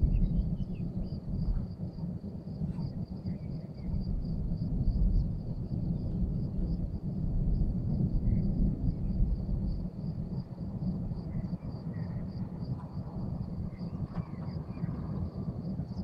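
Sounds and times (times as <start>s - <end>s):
crickets trilling: 0.0s - 16.0s
rumbling thunder: 0.0s - 16.0s.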